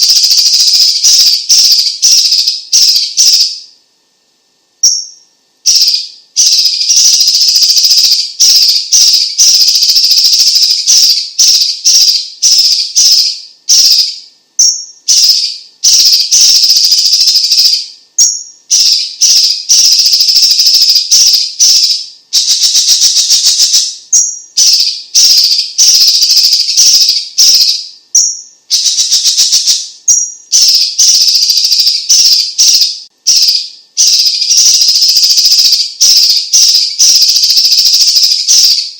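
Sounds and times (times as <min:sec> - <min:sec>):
bird chattering song: 0:00.0 - 0:03.7, 0:04.8 - 0:38.9.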